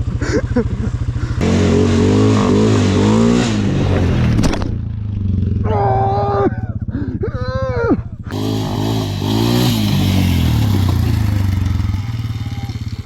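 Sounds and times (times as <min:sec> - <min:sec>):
atv engine idling and revving: 0:00.0 - 0:13.0.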